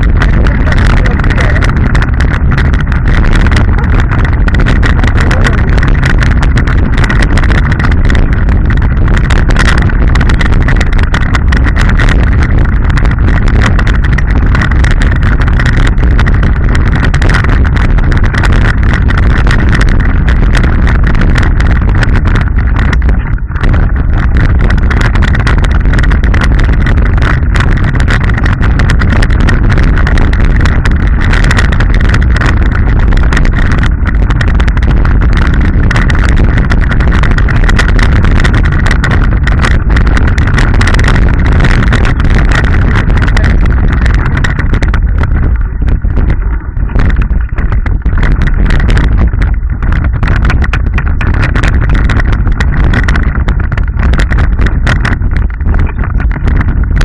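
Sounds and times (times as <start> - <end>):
bike tyres clattering over stones: 0.0 - 57.0
wind rumble on microphone: 0.0 - 57.0.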